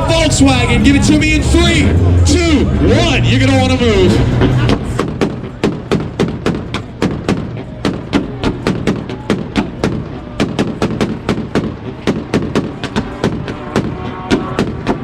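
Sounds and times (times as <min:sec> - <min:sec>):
car engine at rev limiter: 0:00.0 - 0:15.0
exhaust popping and banging: 0:00.0 - 0:15.0.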